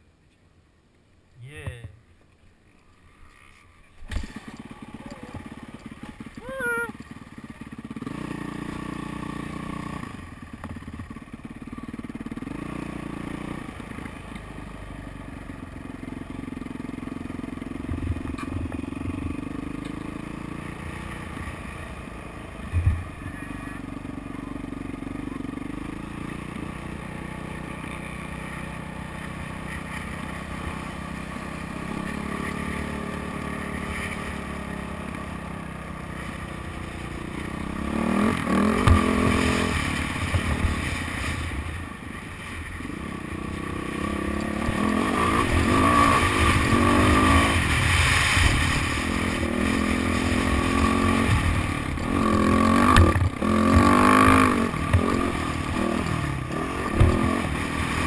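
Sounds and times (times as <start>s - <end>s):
motocross bike engine revving: 4.1s - 58.0s.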